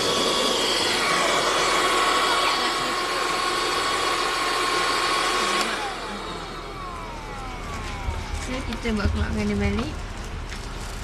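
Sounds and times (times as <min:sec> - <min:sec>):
handheld vacuum cleaner whining: 0:00.0 - 0:09.8.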